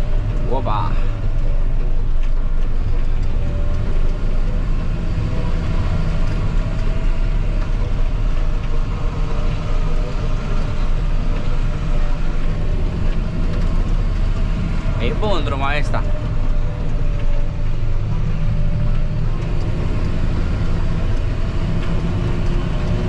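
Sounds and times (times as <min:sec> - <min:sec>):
tractor diesel engine drone: 0:00.0 - 0:23.0.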